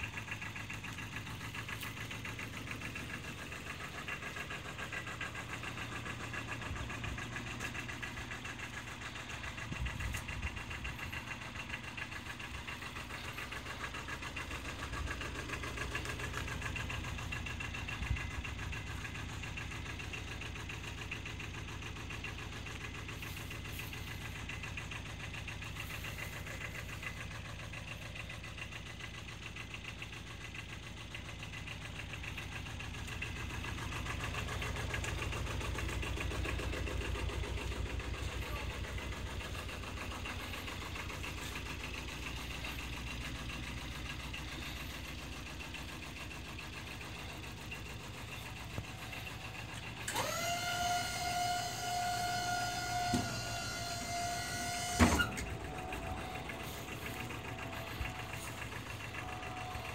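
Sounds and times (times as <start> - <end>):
small diesel engine idling: 0.0 - 59.9.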